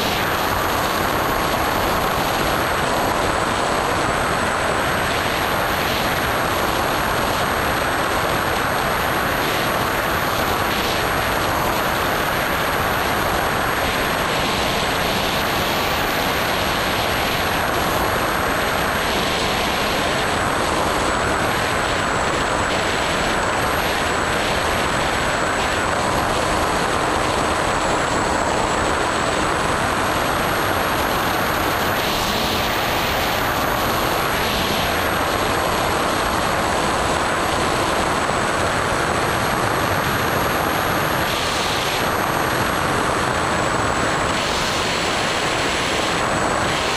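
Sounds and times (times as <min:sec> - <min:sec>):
electric motor and propeller whine: 0:00.0 - 0:46.9
wind rush over microphone: 0:00.0 - 0:46.9.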